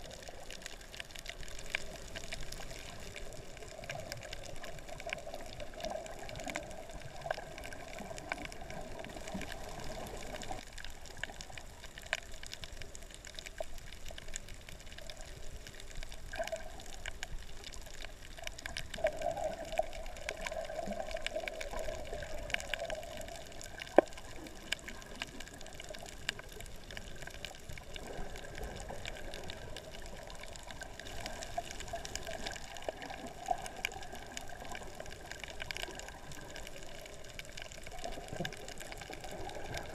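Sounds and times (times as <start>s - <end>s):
sharp clicks and crackles: 0.0s - 39.9s
underwater water wash: 0.0s - 39.9s.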